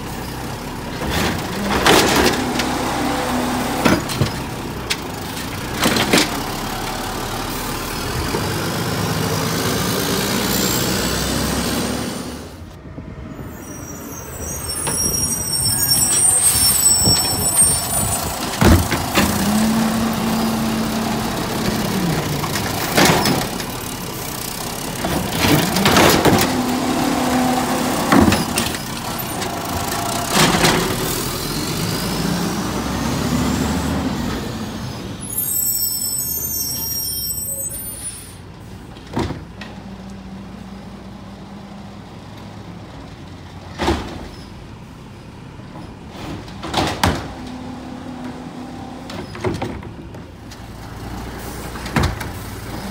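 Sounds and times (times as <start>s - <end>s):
garbage truck engine humming: 0.0s - 12.7s, 14.3s - 52.9s.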